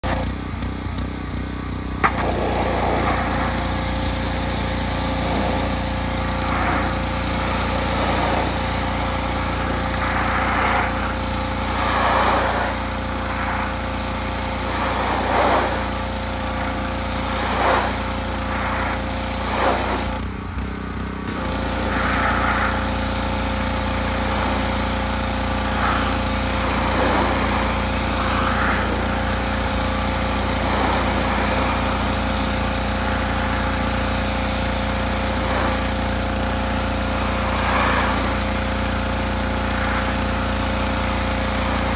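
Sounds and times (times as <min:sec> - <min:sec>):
pressure washer spraying: 0:00.0 - 0:41.9.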